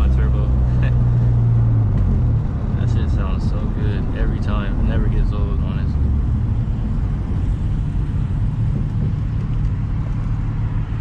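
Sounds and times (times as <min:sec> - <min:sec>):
car engine cruising: 0:00.0 - 0:11.0
road noise: 0:00.0 - 0:11.0.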